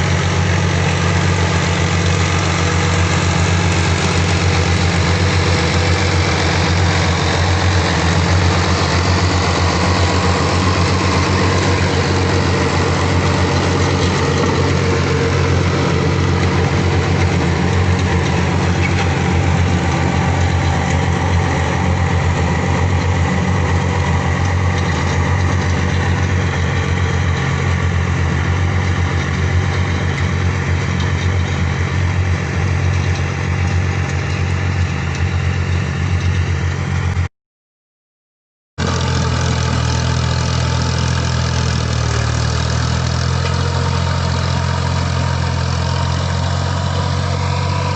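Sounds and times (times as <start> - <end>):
tractor diesel engine running: 0.0 - 37.3, 38.8 - 47.9.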